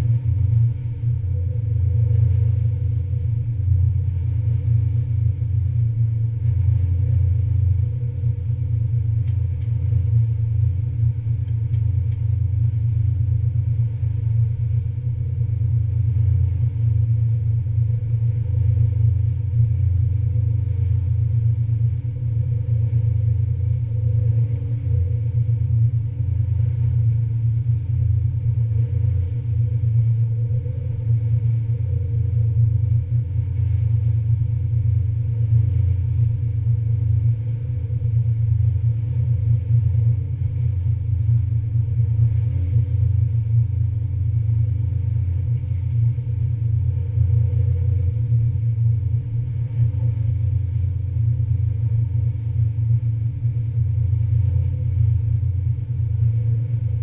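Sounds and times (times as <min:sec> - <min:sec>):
ferry engines droning: 0:00.0 - 0:57.0
steady hum: 0:00.0 - 0:57.0.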